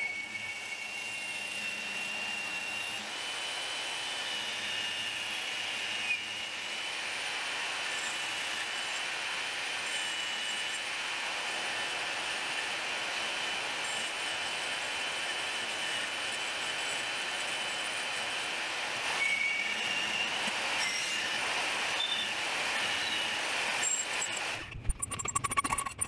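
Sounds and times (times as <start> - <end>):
band saw cutting metal: 0.0 - 26.0.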